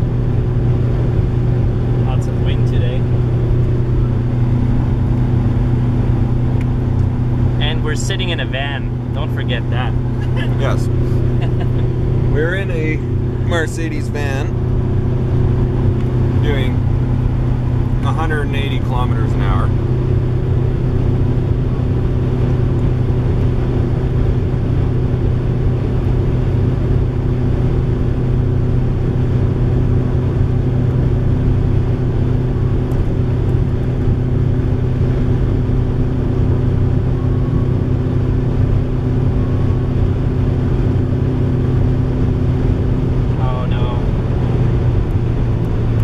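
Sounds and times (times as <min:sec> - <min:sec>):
van engine drone: 0:00.0 - 0:46.0.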